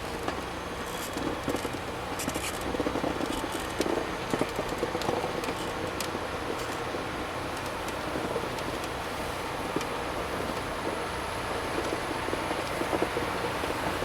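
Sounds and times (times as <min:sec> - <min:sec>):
machine engine hum: 0:00.0 - 0:14.0.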